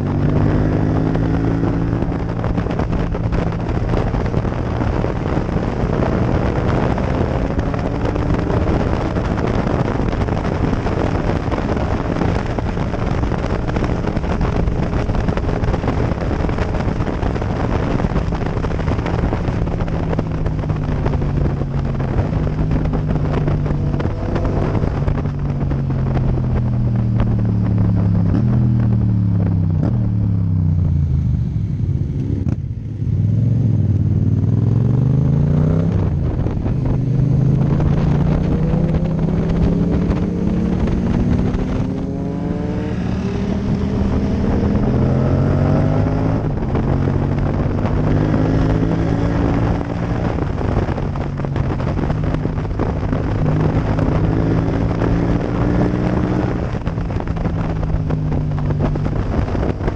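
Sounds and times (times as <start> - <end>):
motorcycle engine accelerating: 0.0 - 59.9
wind rush over microphone: 0.0 - 59.9.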